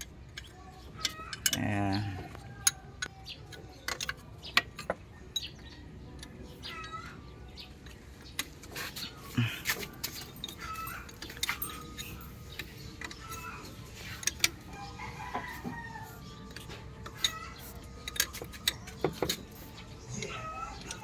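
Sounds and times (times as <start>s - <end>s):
hand tools clicking and knocking: 0.0s - 21.0s.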